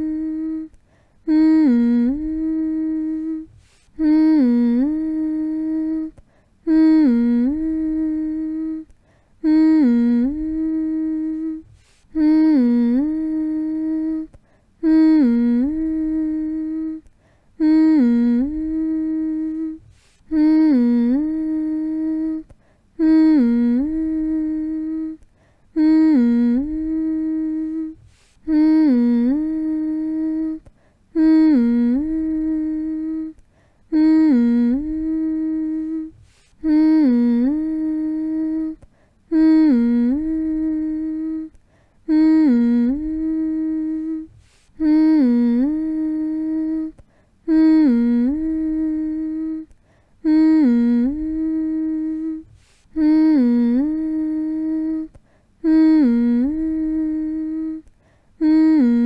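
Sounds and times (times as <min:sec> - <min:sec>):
person humming: 0:00.0 - 0:59.0.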